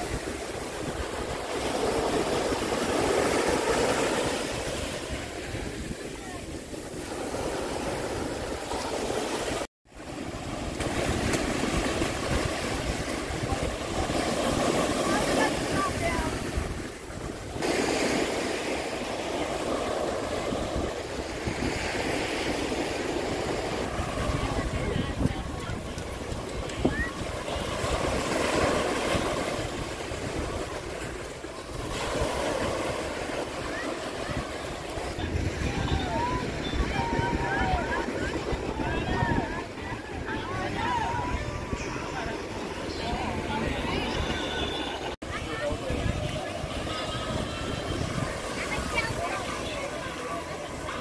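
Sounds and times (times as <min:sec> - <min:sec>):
ocean surf washing up: 0:00.0 - 0:51.0
wind rumbling on microphone: 0:00.0 - 0:51.0.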